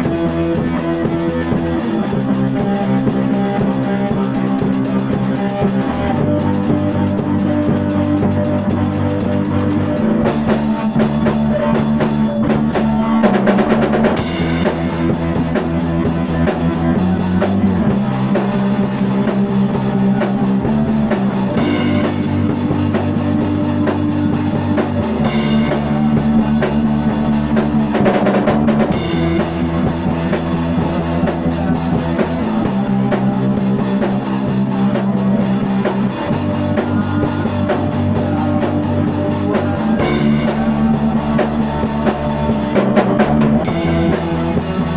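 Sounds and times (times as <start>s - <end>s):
rock music on drums and guitar: 0.0s - 44.9s.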